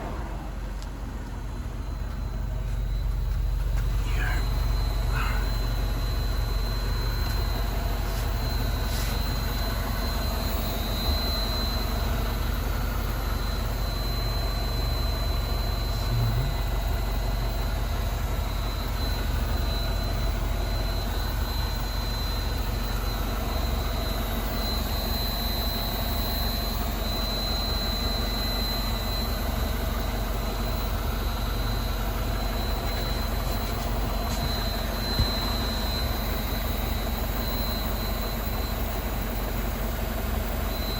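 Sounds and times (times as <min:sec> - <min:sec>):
high-pitched whine from fuel tank: 0:00.0 - 0:40.9
low steady rumble: 0:00.0 - 0:40.9.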